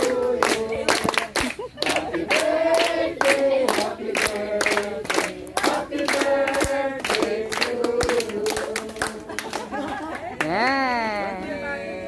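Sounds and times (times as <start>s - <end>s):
group of people singing: 0.0s - 10.0s, 11.2s - 12.0s
hands clapping in time: 0.0s - 10.6s.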